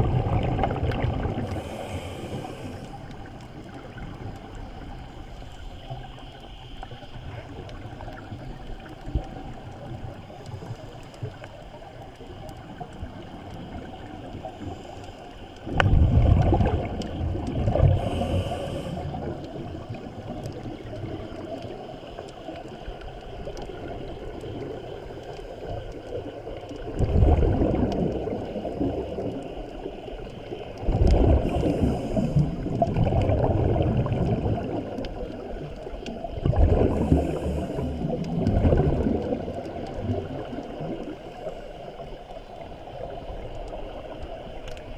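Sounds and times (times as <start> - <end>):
regulator bubbles gurgling: 0.0 - 44.9
steady underwater hiss: 0.0 - 44.9
faint clicks: 0.7 - 44.9.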